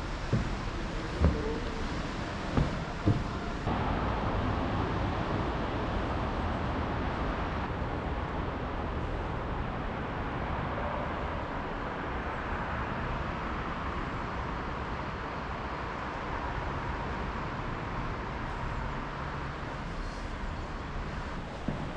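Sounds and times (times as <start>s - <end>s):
vehicle rumble with faint hum: 0.0s - 21.9s.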